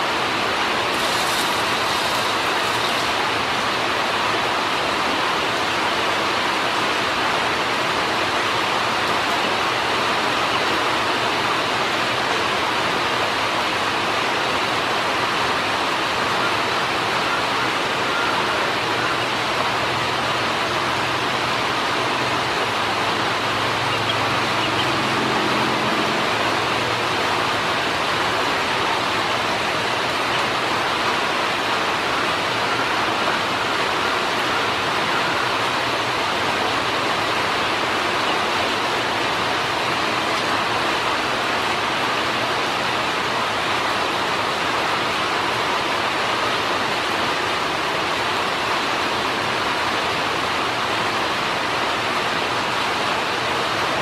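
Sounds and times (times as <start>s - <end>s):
steady rushing noise: 0.0s - 16.2s, 19.4s - 54.0s.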